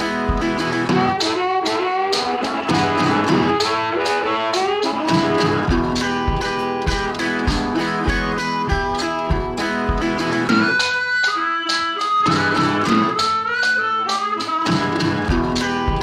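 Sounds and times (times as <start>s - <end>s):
guitar-led country music: 0.0s - 16.0s.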